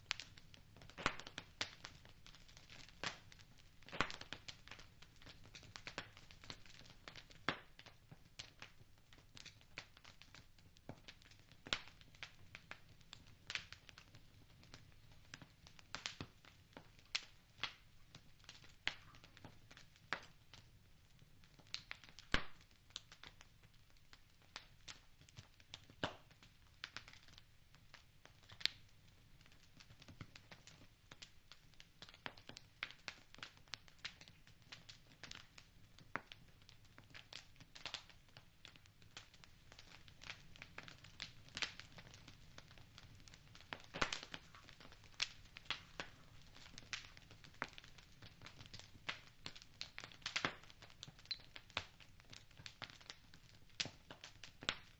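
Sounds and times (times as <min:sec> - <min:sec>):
faint low hiss: 0:00.0 - 0:54.9
wood fire crackling: 0:00.0 - 0:54.9.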